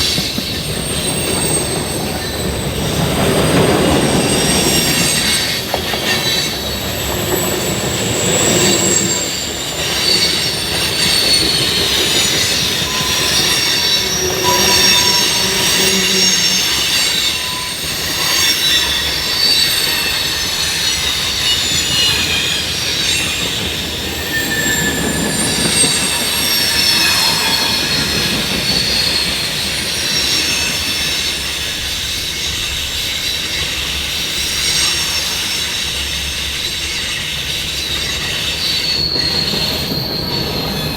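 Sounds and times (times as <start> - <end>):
rumble of train cars: 0.0 - 40.9
train wheels squealing on rails: 0.0 - 40.9.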